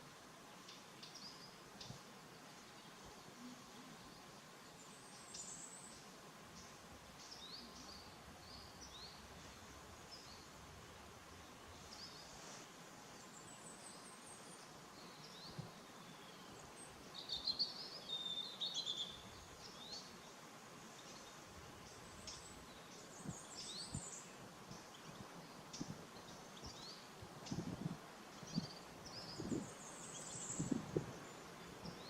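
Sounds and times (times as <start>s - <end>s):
faint background hiss: 0.0s - 32.0s
small birds chirping: 0.0s - 32.0s.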